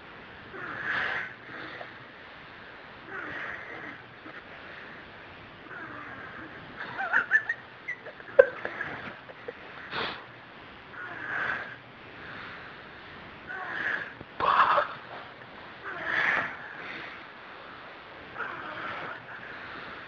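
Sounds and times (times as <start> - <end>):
raspy wheezing breaths: 0.5 - 7.2, 8.1 - 20.0.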